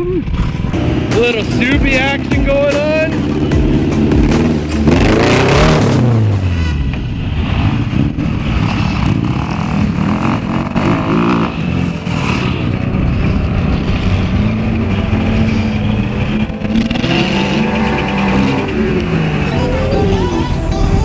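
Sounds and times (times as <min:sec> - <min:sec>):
off-road vehicle engine under load: 0:00.0 - 0:21.0.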